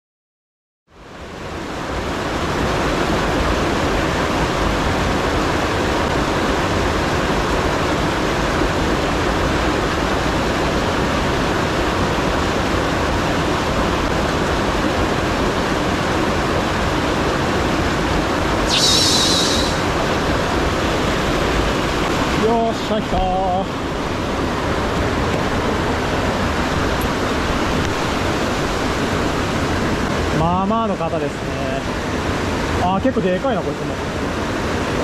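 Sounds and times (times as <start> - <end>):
stream rushing over rocks: 1.0 - 35.0.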